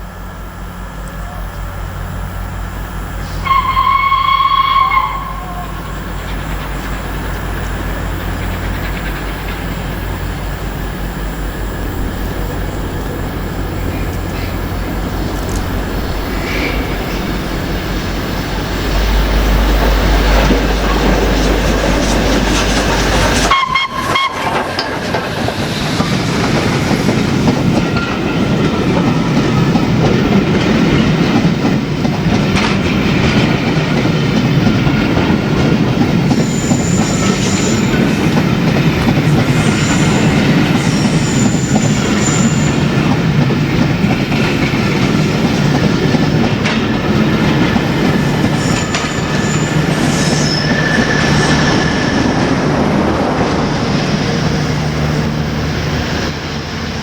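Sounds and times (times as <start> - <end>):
train wheels clattering over rails: 0.9 - 57.0.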